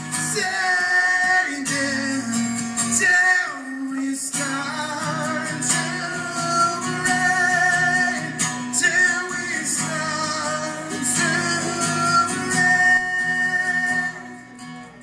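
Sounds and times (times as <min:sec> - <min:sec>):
acoustic guitar: 0:00.0 - 0:15.0
man singing long notes: 0:00.3 - 0:14.6.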